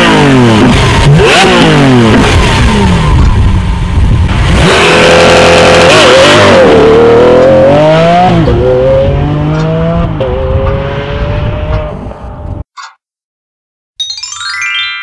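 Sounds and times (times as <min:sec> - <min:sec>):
car engine accelerating hard: 0:00.0 - 0:12.6.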